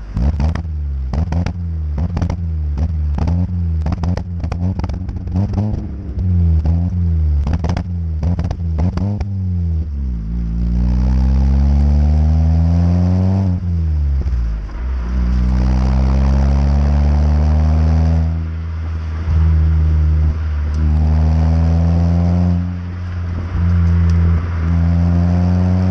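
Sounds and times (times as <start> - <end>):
car engine accelerating: 0.0 - 25.9
exhaust cracks: 0.0 - 25.9.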